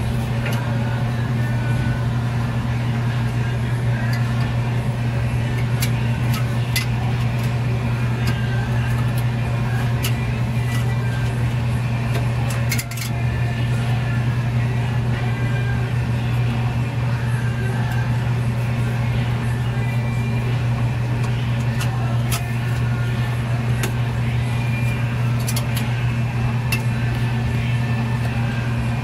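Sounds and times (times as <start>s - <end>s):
low machine drone: 0.0s - 29.0s.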